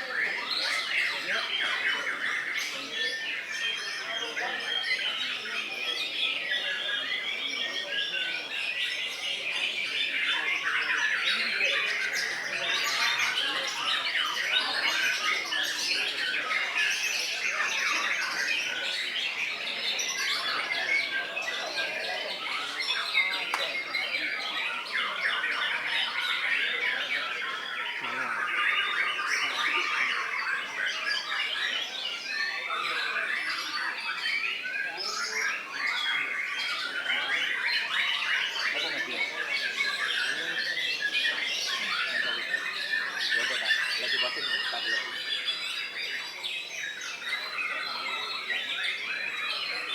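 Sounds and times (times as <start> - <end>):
songbirds singing chorus: 0.0 - 49.9.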